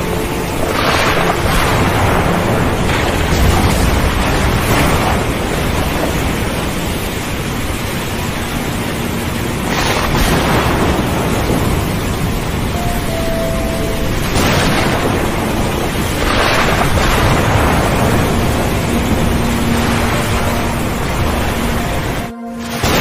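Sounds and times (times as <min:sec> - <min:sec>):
deep rumble: 0:00.0 - 0:23.0
waves breaking: 0:00.0 - 0:23.0
wind: 0:00.0 - 0:23.0.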